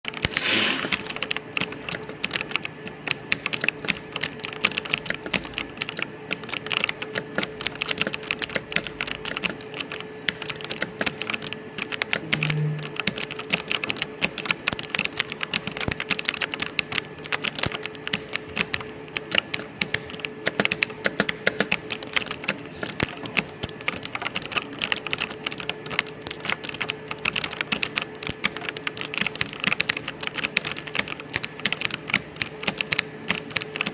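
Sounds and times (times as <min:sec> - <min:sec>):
fast typing on keyboard: 0:00.0 - 0:33.9.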